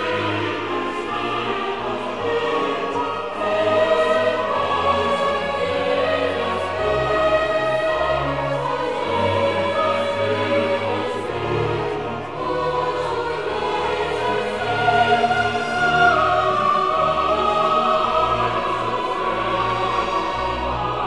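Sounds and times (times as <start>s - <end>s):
choir singing long held notes: 0.0s - 21.0s
orchestra: 0.0s - 21.0s.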